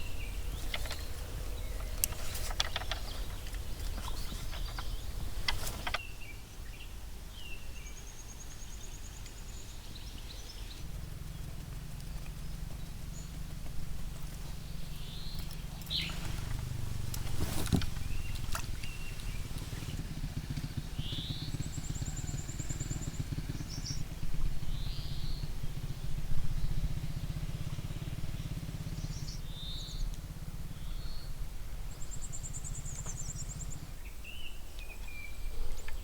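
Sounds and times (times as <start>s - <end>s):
birds chirping and trilling: 0.0s - 36.0s
small engine droning: 0.0s - 36.0s.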